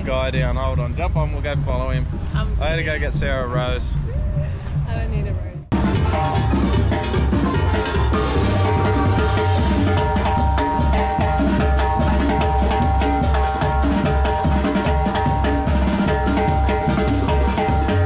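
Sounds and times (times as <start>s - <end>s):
live band with bass-heavy beat: 0.0s - 18.0s
timbales struck with sticks: 0.0s - 18.0s.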